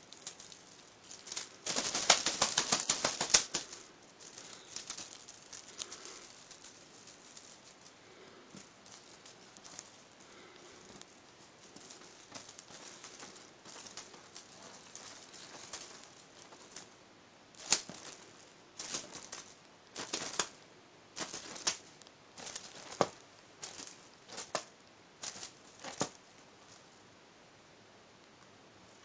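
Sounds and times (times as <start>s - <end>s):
paws scrabbling on fabric: 0.0s - 16.9s, 17.6s - 20.6s, 21.2s - 26.8s
teaser toy swishing: 0.0s - 16.9s, 17.6s - 20.6s, 21.2s - 26.2s.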